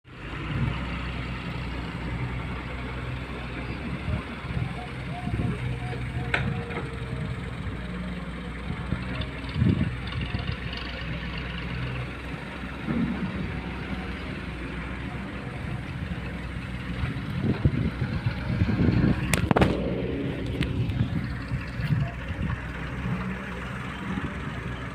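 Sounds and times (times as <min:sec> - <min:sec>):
diesel engine running: 0:00.1 - 0:24.9.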